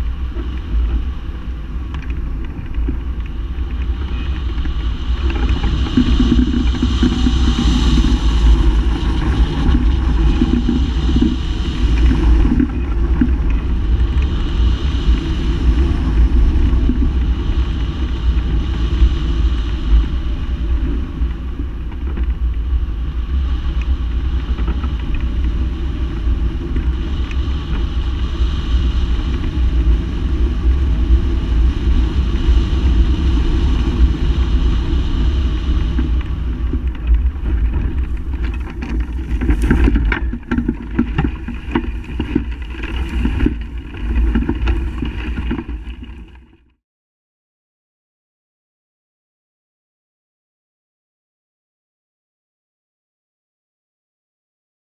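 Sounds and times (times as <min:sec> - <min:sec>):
wind rushing over microphone: 0:00.0 - 0:46.7.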